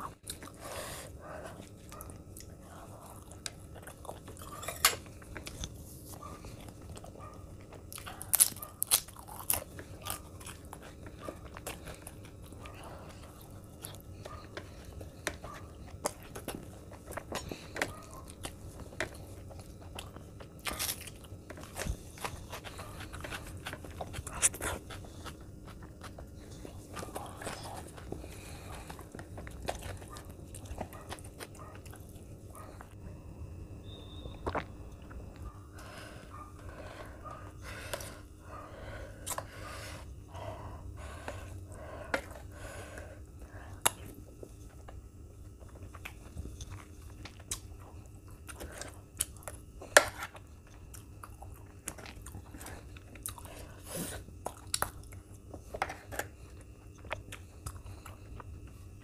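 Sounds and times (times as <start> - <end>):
person chewing: 0.0 - 33.0, 33.8 - 59.0.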